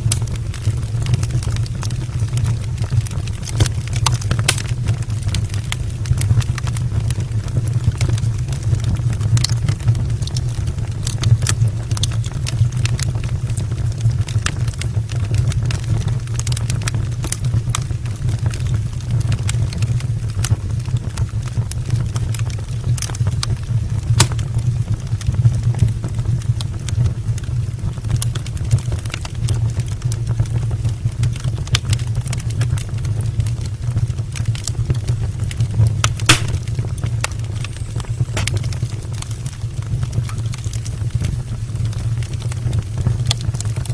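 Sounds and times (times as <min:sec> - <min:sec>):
logs crackling and popping: 0:00.0 - 0:43.9
wood fire burning: 0:00.0 - 0:43.9.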